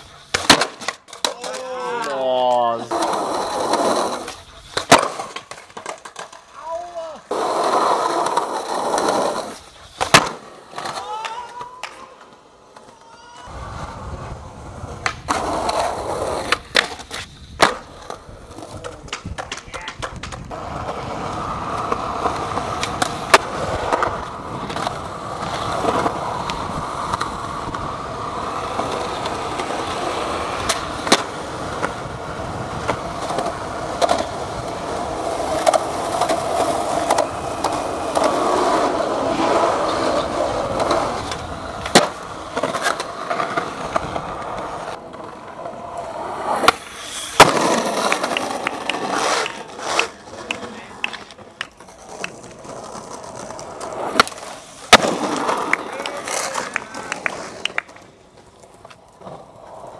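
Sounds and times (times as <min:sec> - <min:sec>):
skateboard clacking on ground: 0:00.0 - 0:59.9
skateboard wheels rolling on asphalt: 0:00.0 - 0:59.9.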